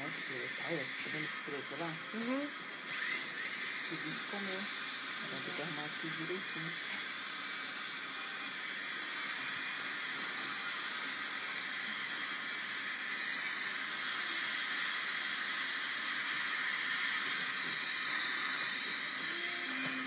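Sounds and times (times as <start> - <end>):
dental equipment hissing: 0.0 - 20.0.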